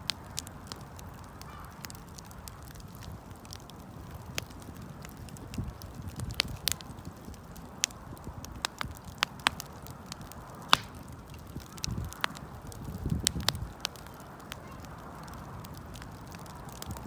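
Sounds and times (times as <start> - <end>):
campfire crackling: 0.0 - 17.0
low rushing of burning fire: 0.0 - 17.0.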